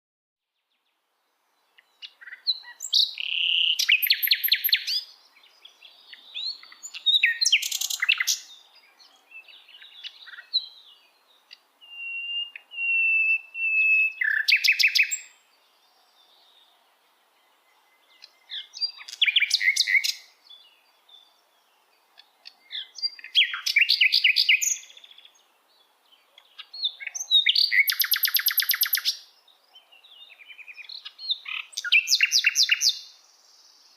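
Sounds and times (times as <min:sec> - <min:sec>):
bird chirps and trills: 0:01.6 - 0:33.9.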